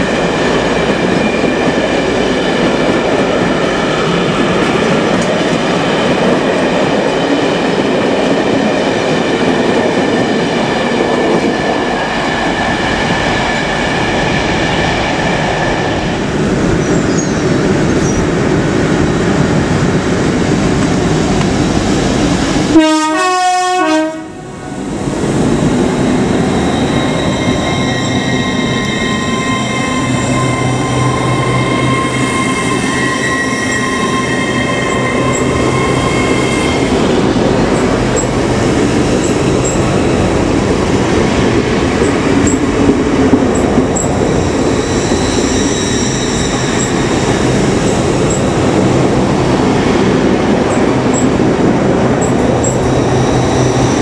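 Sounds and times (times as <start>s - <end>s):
electric train whine: 0.0s - 54.0s
passenger coaches rolling past: 0.0s - 54.0s
train rumbling: 0.0s - 54.0s.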